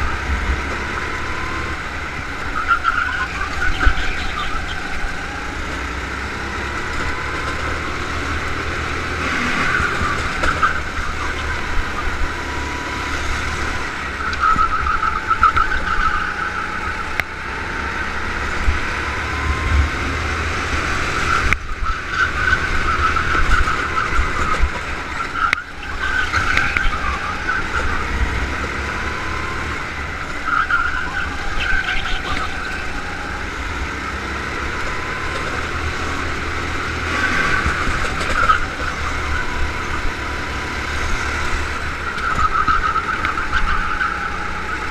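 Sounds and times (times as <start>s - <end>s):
go-kart engine running: 0.0s - 44.9s
wind and vibration rumble: 0.0s - 44.9s.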